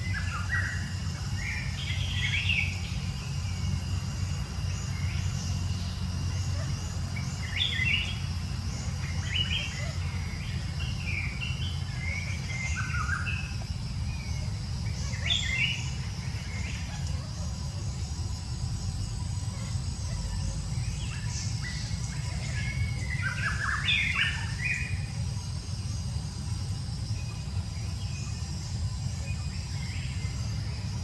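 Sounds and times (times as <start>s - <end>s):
birds chirping: 0.0s - 31.0s
faint high hum: 0.0s - 31.0s
steady low rumble: 0.0s - 31.0s.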